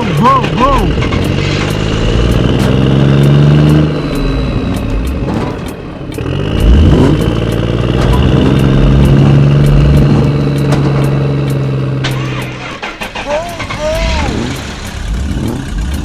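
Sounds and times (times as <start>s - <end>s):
small tractor motor humming: 0.0s - 16.0s.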